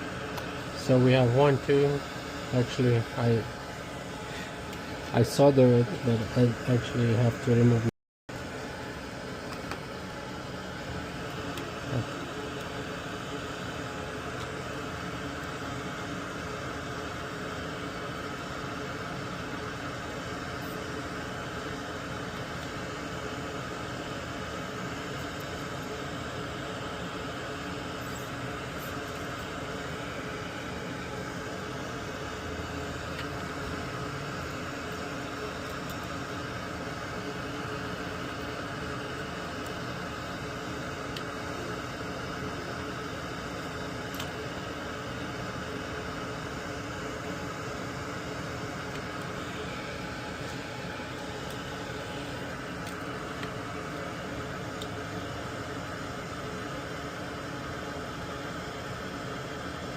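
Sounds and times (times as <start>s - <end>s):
fan-like whooshing hum: 0.0s - 59.9s.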